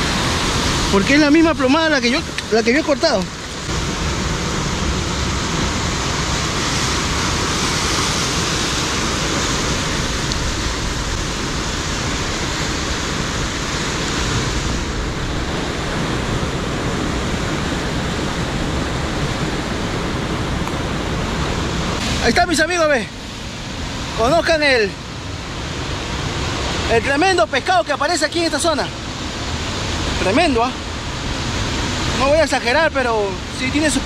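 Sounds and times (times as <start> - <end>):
sea surf breaking on rocks: 0.0 - 34.0
wind: 0.0 - 34.0.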